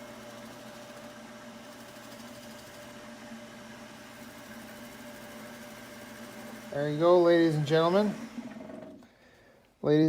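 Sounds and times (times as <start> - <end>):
wood lathe motor humming: 0.0 - 9.1.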